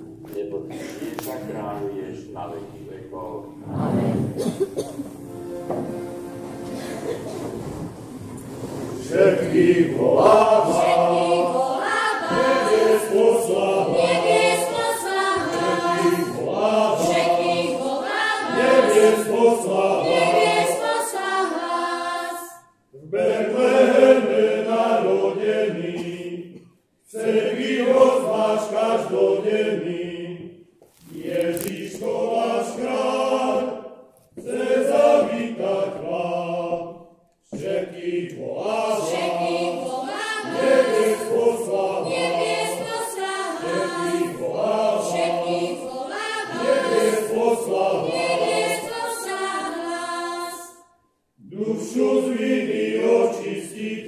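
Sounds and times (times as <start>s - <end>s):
group singing in church: 0.0s - 54.0s.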